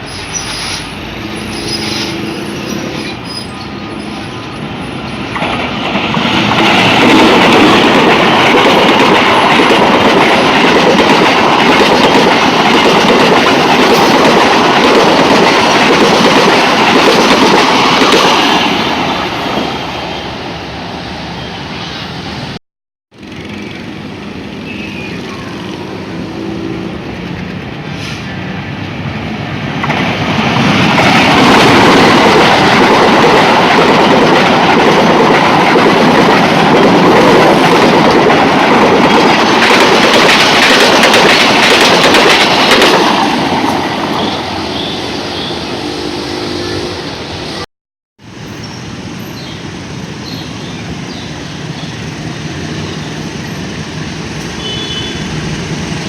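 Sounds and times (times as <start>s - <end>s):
passenger train passing: 0.0s - 22.6s, 23.2s - 56.0s.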